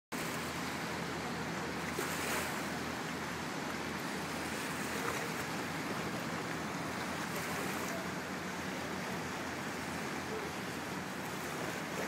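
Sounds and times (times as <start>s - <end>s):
river water rushing: 0.1s - 12.0s
wind: 0.1s - 12.0s.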